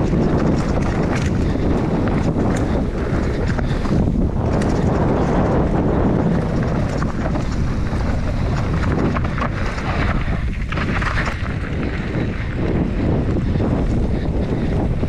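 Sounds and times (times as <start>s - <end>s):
bike clattering: 0.0s - 15.0s
tyres rattling over rough trail: 0.0s - 15.0s
wind buffeting microphone: 0.0s - 15.0s.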